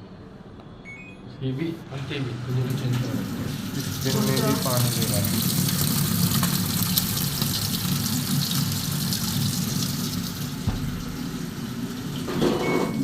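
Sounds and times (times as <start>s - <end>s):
water rushing into washing machine: 2.5s - 13.0s.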